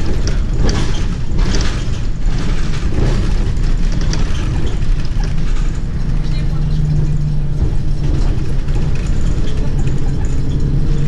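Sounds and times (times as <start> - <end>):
bus engine and road rumble: 0.0 - 11.0
rattles and clicks: 0.0 - 11.0.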